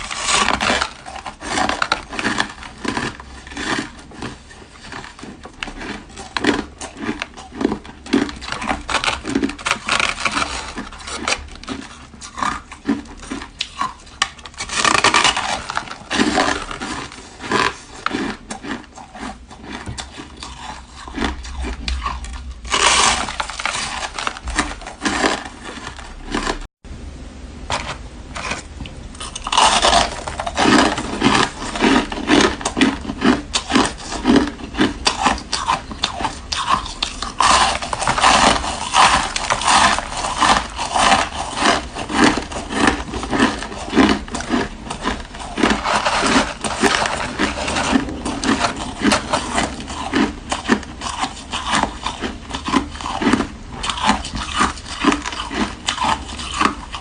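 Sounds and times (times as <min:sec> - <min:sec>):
crunching and chewing ice: 0:00.0 - 0:26.7, 0:28.3 - 0:57.0.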